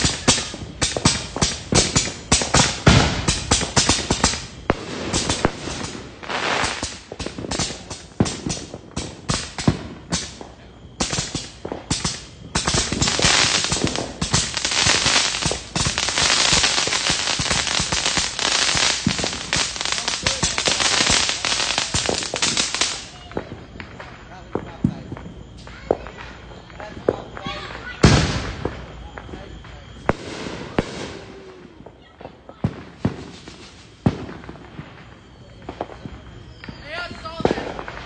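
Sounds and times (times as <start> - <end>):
firecrackers cracking and popping: 0.0 - 38.0.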